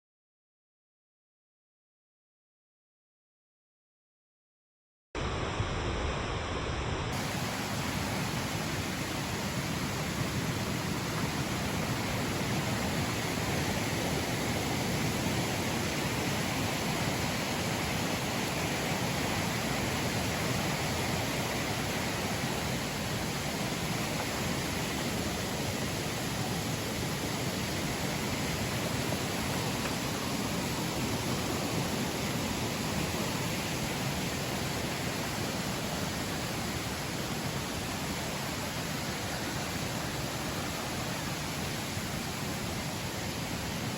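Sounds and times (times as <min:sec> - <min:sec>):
stream water rushing: 0:05.2 - 0:43.9.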